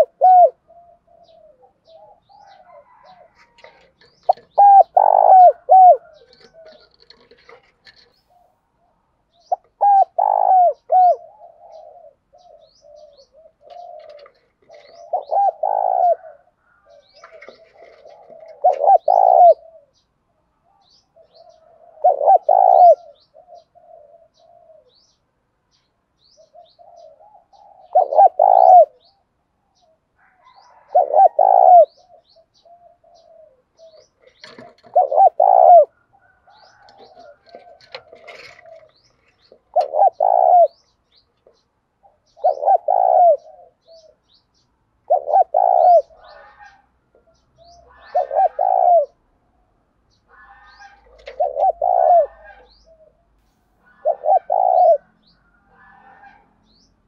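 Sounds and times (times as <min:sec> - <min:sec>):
dove cooing: 0:00.0 - 0:25.2, 0:26.3 - 0:49.3, 0:50.3 - 0:56.5
small birds chirping: 0:00.0 - 0:57.0.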